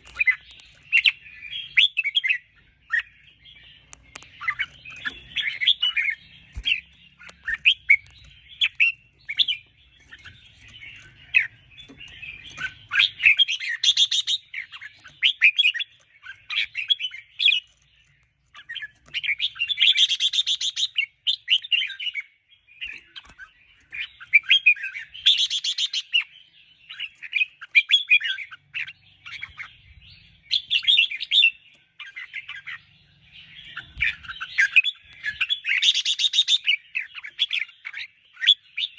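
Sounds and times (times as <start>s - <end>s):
bird singing chirping phrases: 0.0s - 38.9s.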